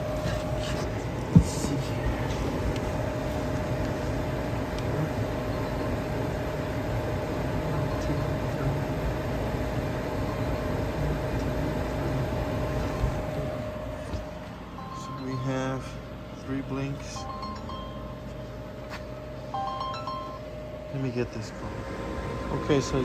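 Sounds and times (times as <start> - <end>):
furnace fans humming: 0.0 - 23.0.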